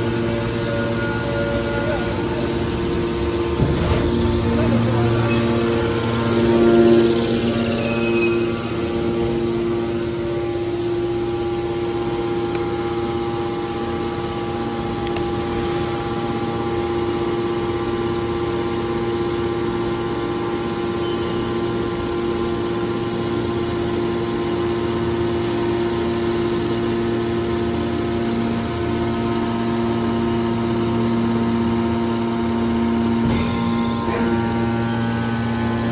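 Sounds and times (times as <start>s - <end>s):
industrial machinery humming: 0.0s - 35.9s.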